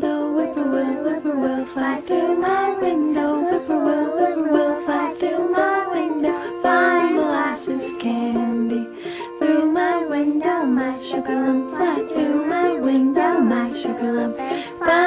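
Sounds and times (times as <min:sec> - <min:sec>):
people singing: 0:00.0 - 0:15.0
plucked acoustic strings: 0:00.0 - 0:15.0.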